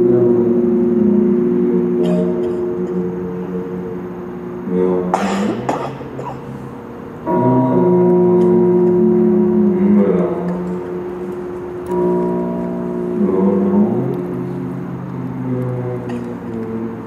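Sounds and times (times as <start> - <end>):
droning vocal tones: 0.0 - 17.0.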